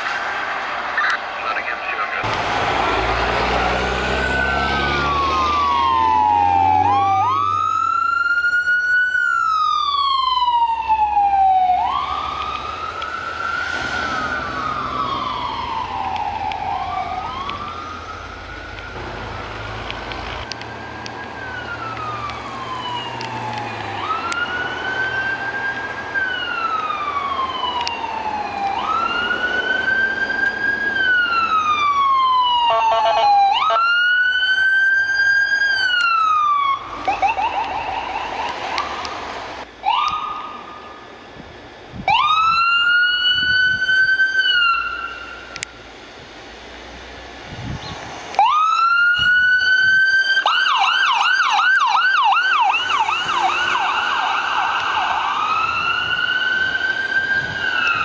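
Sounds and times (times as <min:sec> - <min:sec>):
electronic siren wailing: 0:01.0 - 0:39.0, 0:42.0 - 0:45.6, 0:48.4 - 0:58.0.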